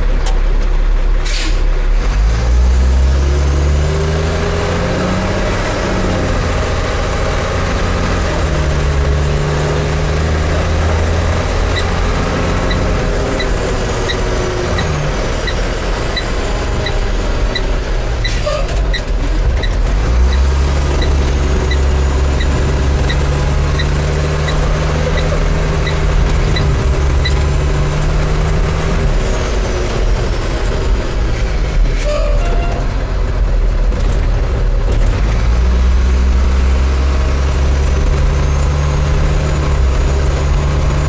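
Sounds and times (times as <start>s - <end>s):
diesel truck engine drone: 0.0s - 41.0s.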